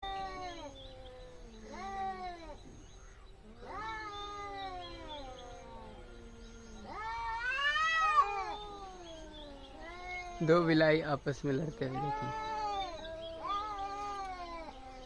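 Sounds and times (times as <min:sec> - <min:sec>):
cats yowling: 0:00.0 - 0:02.8, 0:03.4 - 0:15.0.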